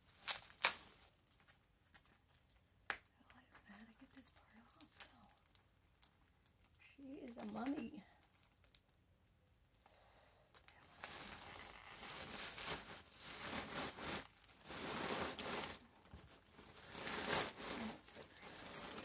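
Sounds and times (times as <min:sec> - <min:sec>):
bubble wrap crinkling: 0:00.0 - 0:09.8, 0:10.5 - 0:19.0.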